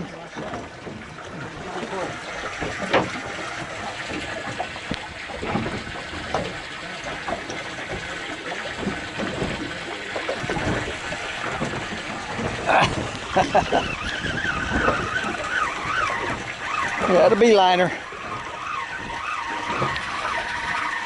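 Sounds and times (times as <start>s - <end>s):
water slapping against boat hull: 0.0s - 21.0s
water splash: 0.0s - 21.0s.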